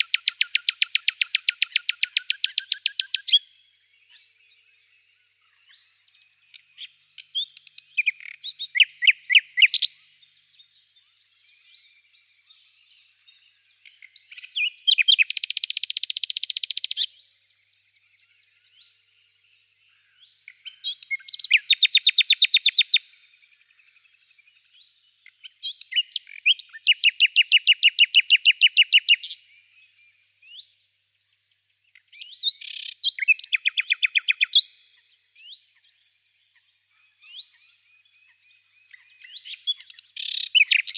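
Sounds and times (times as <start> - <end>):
songbird trilling: 0.0 - 4.7, 5.4 - 10.3, 11.0 - 17.2, 18.2 - 30.7, 31.9 - 35.9, 36.6 - 40.9.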